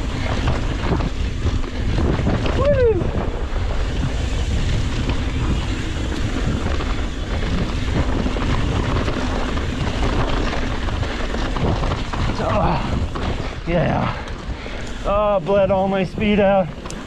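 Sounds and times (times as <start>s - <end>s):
mountain bike rolling on rocky trail: 0.0s - 17.0s
wind buffeting microphone: 0.0s - 17.0s.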